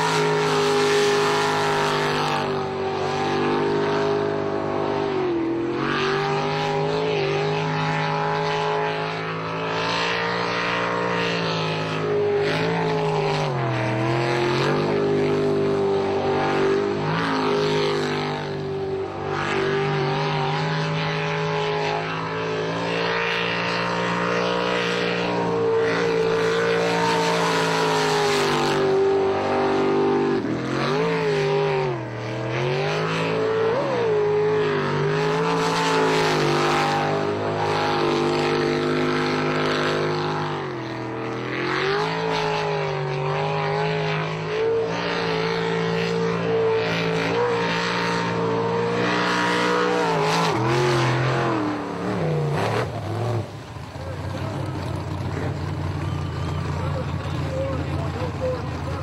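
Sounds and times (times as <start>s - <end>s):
speedboat engine at high revs: 0.0s - 59.0s.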